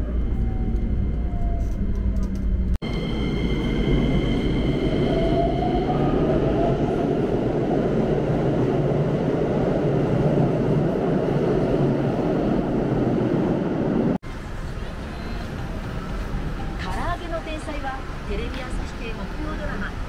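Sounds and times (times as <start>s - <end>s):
train wheels and motors rumbling: 0.0s - 20.0s.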